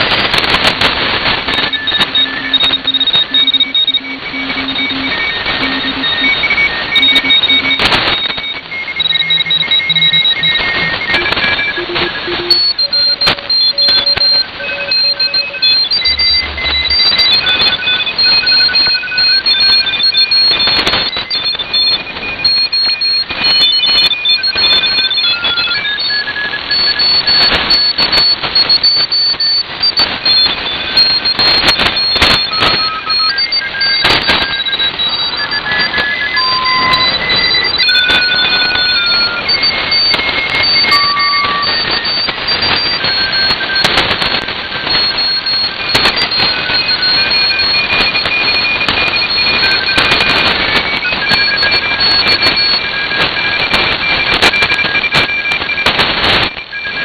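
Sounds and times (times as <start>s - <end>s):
morse code tones: 0.0s - 57.0s
radio band noise hiss: 0.0s - 57.0s
static crackles: 0.0s - 57.0s.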